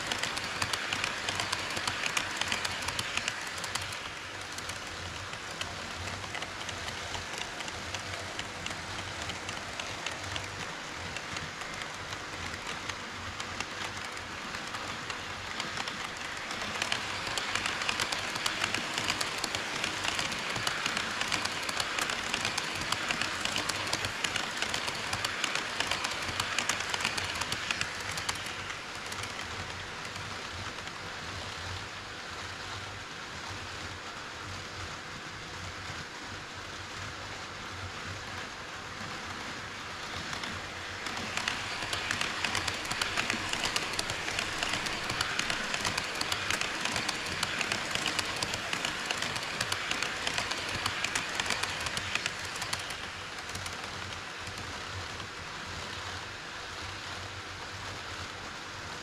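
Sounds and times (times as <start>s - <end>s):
model train wheels clattering: 0.0s - 31.0s, 39.0s - 56.0s.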